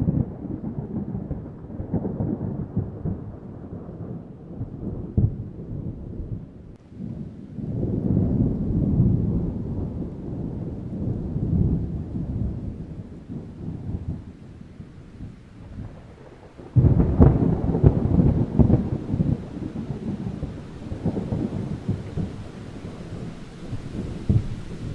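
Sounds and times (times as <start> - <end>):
loud thunderclap: 0.0 - 24.9
thunder rumbling: 0.0 - 24.9.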